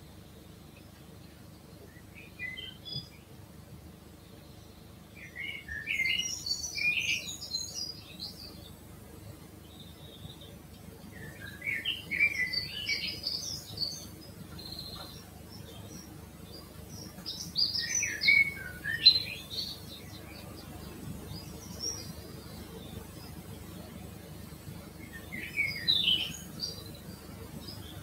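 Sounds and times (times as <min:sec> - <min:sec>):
songbird singing: 0:00.0 - 0:28.0.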